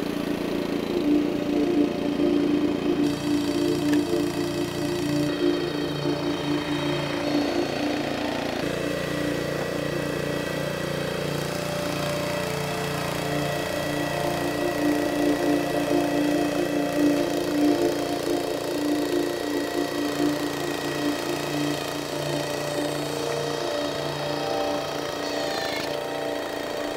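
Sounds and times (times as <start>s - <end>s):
small gasoline engine running: 0.0s - 26.9s.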